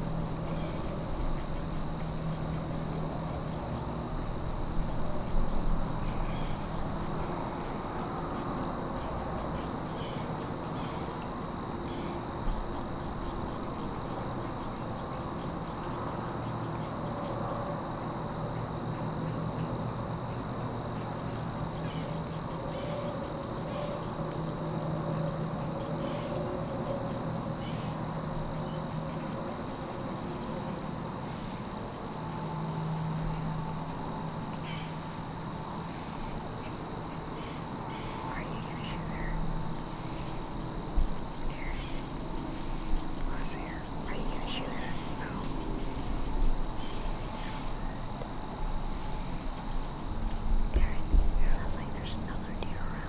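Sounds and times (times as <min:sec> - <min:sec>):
high-pitched insect drone: 0:00.0 - 0:53.0
low distant hum: 0:00.0 - 0:53.0
faint ticks and rustles: 0:00.1 - 0:27.2, 0:32.3 - 0:53.0.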